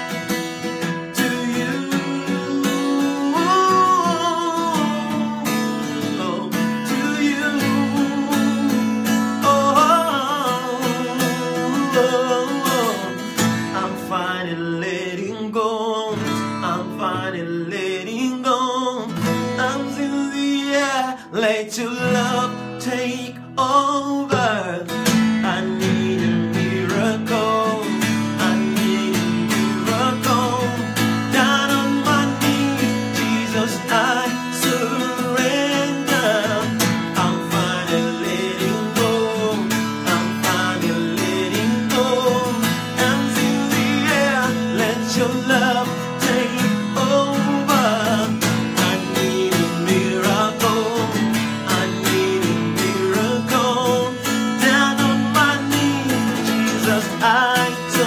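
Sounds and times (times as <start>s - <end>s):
acoustic guitar strumming: 0.0s - 58.0s
man singing worship song: 0.0s - 58.0s.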